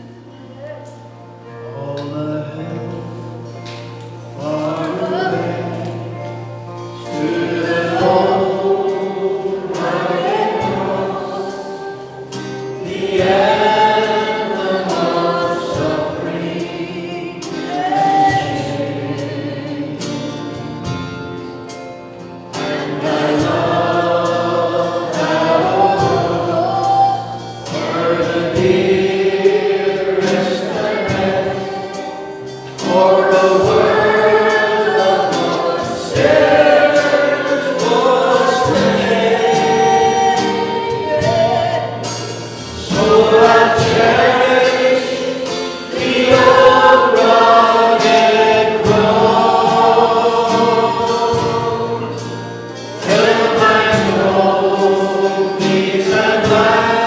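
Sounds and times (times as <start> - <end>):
group singing a hymn: 0.0 - 57.0
instrumental accompaniment: 0.0 - 57.0.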